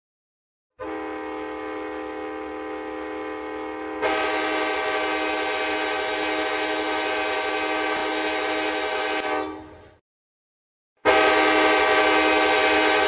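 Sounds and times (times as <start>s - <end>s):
locomotive air horn: 0.8s - 10.0s, 11.0s - 13.0s.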